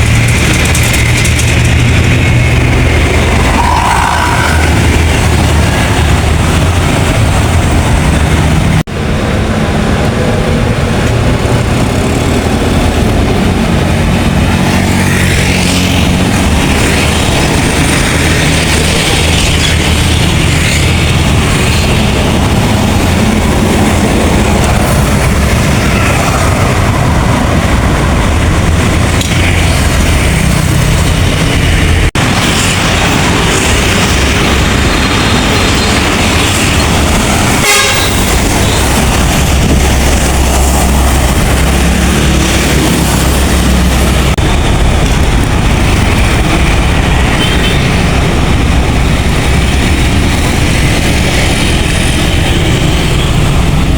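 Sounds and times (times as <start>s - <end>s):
diesel bus engines droning: 0.0s - 53.9s
heavy road noise: 0.0s - 53.9s.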